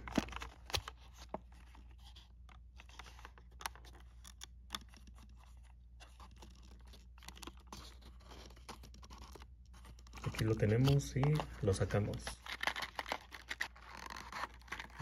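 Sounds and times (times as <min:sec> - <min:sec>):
fingers handling cardboard box: 0:00.0 - 0:15.0.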